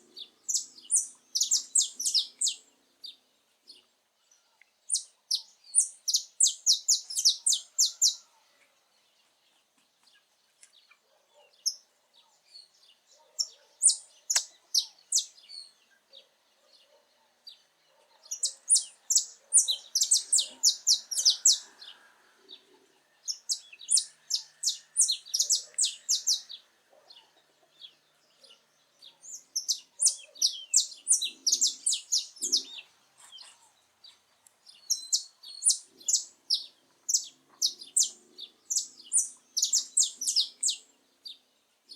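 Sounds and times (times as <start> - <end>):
finch singing: 0.0 - 3.9, 4.9 - 8.3, 12.5 - 16.3, 16.9 - 41.5.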